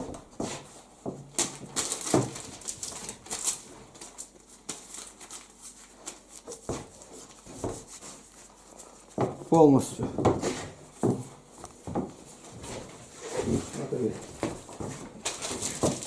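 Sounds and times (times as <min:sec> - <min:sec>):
newspaper crinkling and rustling: 0:01.3 - 0:09.8, 0:11.4 - 0:16.0.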